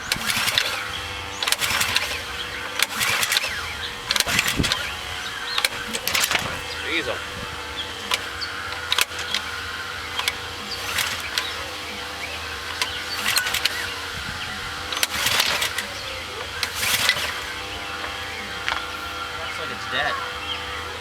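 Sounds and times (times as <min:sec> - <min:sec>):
engine pull-start cranking: 0:00.0 - 0:21.0.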